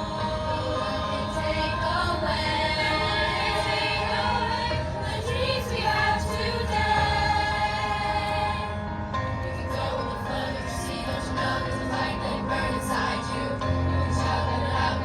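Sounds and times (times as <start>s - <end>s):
choir singing long notes: 0.0s - 15.0s.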